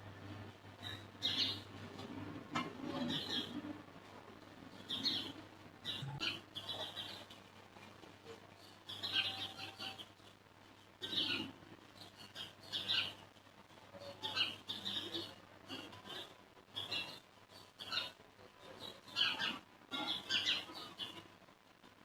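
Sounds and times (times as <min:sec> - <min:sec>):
faint steady hum: 0:00.0 - 0:22.0
small birds chirping: 0:00.7 - 0:02.2, 0:02.9 - 0:21.4.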